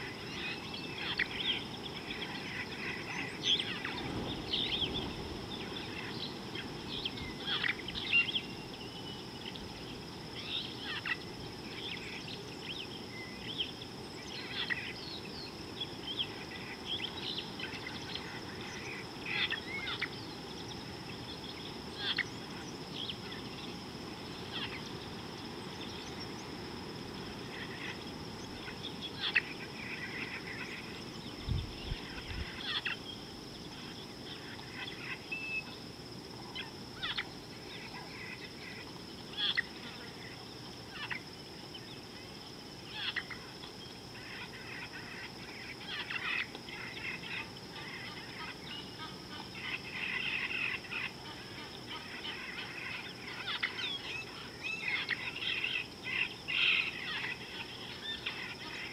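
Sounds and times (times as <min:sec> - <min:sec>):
low background hiss: 0:00.0 - 0:58.9
wild birds chirping: 0:00.0 - 0:58.9.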